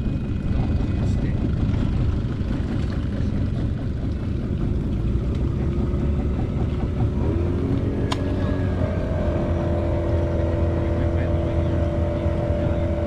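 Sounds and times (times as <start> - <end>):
motorboat engine rumbling: 0.0 - 13.0.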